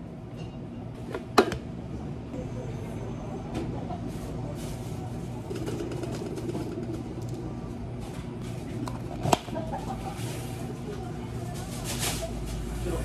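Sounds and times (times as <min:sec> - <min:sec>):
low hum of cafe equipment: 0:00.0 - 0:13.0.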